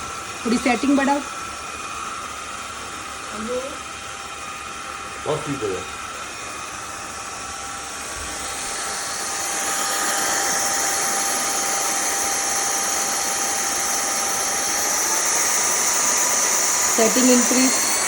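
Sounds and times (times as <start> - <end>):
stick vacuum running: 0.0 - 18.0.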